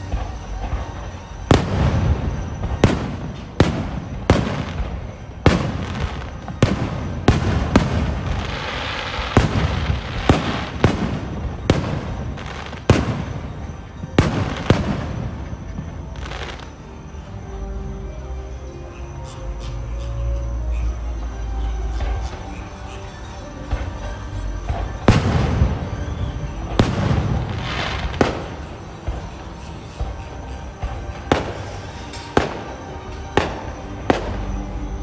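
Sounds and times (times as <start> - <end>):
fireworks bursting with sharp bangs: 0.0 - 17.2, 22.0 - 35.0
fireworks crackling: 0.0 - 17.5, 22.0 - 35.0.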